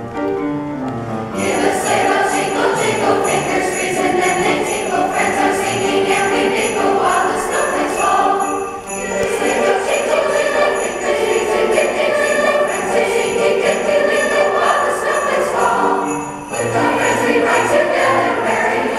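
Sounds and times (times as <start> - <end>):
instrumental accompaniment: 0.0 - 18.9
sleigh bells jingling: 1.4 - 18.9
youth choir singing: 1.4 - 18.9.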